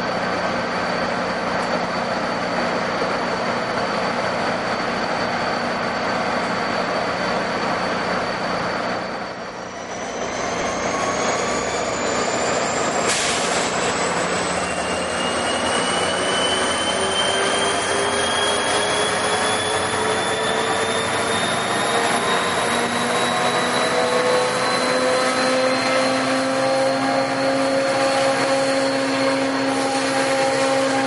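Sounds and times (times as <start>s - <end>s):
high squeal: 0.0s - 31.0s
rising whine: 0.0s - 31.0s
train wheels on rails: 0.0s - 31.0s.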